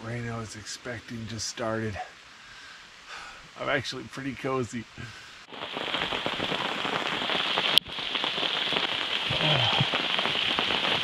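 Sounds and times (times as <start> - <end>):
rain falling on a tarp: 0.0 - 11.0.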